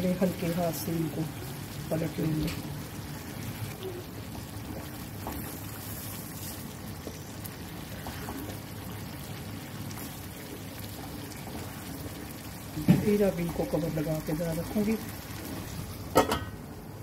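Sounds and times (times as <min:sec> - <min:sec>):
vegetables sizzling in frying pan: 0:00.0 - 0:17.0.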